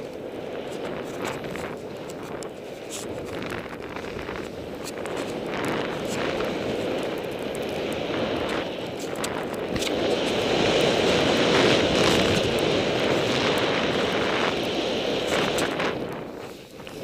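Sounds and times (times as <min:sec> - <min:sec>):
snowboard sliding on snow: 0:00.0 - 0:17.0
wind on microphone: 0:00.0 - 0:17.0.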